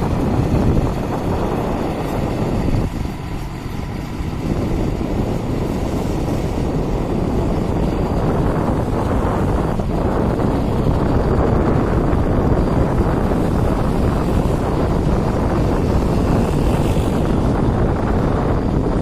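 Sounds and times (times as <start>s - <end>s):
freight train rumbling: 0.0s - 19.0s
wind on microphone: 0.0s - 19.0s.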